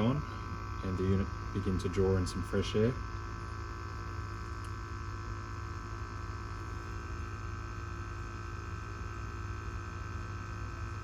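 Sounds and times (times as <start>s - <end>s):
sampling pump humming: 0.0s - 11.0s.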